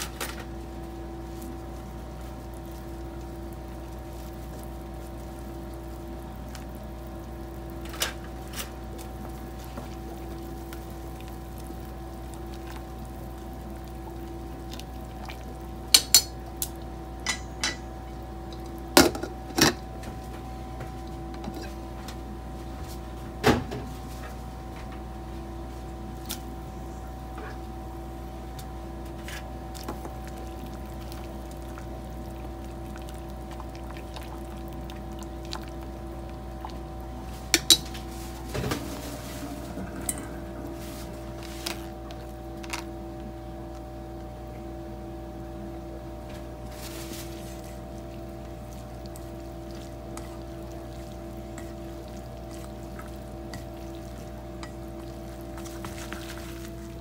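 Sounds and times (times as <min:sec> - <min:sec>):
kitchen hum: 0:00.0 - 0:57.0.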